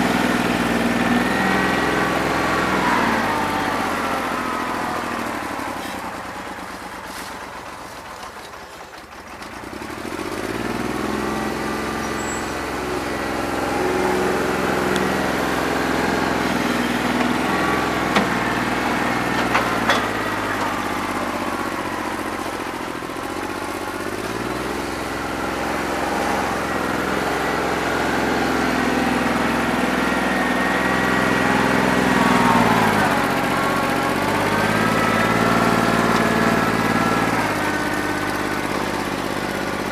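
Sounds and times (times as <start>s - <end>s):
diesel tractor engine running rough: 0.0s - 39.9s.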